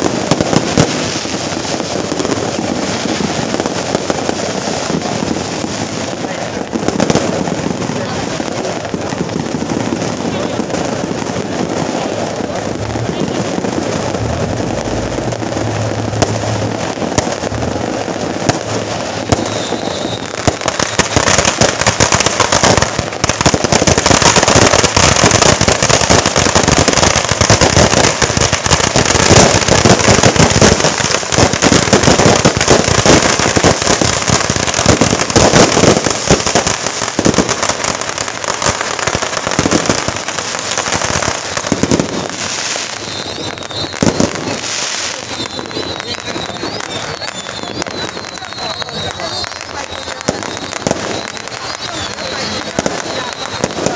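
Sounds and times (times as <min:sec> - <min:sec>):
firecrackers crackling: 0:00.0 - 0:53.9.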